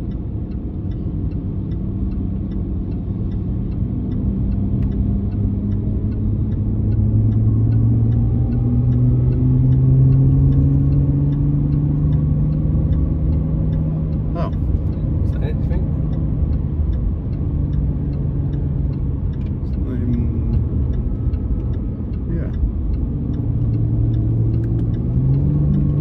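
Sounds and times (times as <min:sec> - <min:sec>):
faint regular ticking: 0:00.0 - 0:26.0.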